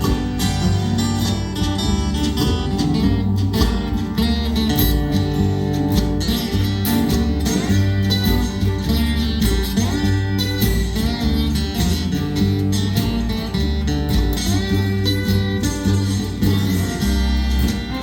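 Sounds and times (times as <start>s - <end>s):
acoustic guitar strumming: 0.0s - 18.0s
low bass line: 0.0s - 18.0s.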